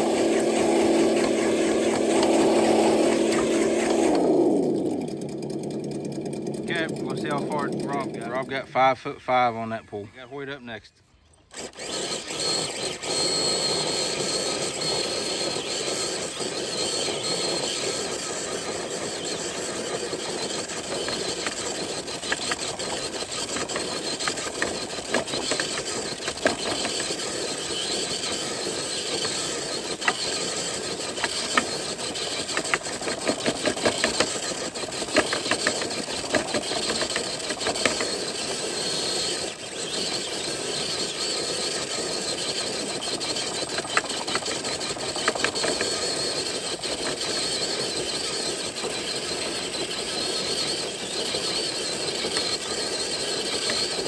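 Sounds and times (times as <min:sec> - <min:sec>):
sharp clicks and ticks: 0:00.0 - 0:09.5, 0:11.5 - 0:54.0
electric motor whining: 0:00.0 - 0:54.0.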